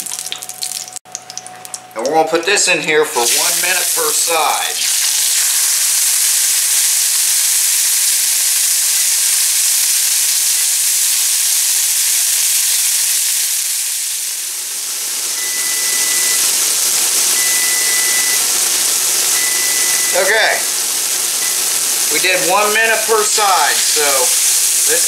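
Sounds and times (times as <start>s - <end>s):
steak sizzling in hot oil: 0.0s - 1.8s, 3.2s - 25.0s.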